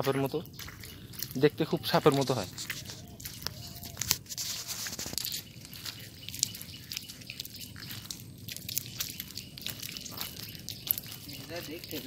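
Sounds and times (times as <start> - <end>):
footsteps squelching in wet mud: 0.0 - 12.0.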